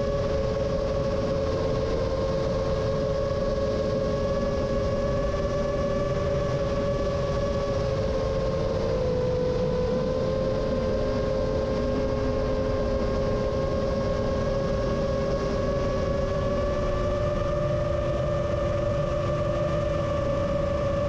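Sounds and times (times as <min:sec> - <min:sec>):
heavy wind rumble: 0:00.0 - 0:21.0.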